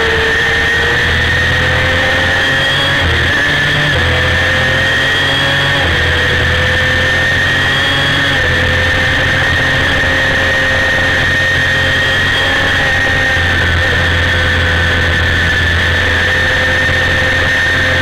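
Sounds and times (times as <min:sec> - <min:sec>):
motorcycle engine at high revs: 0:00.0 - 0:18.0
wind and road noise: 0:00.0 - 0:18.0.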